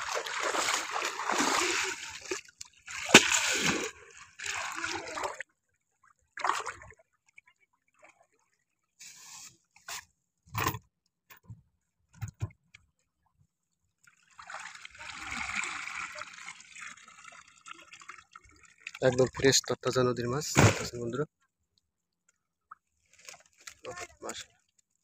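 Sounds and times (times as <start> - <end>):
water splashing and sloshing: 0.0 - 10.1, 12.2 - 19.6, 20.4 - 25.0.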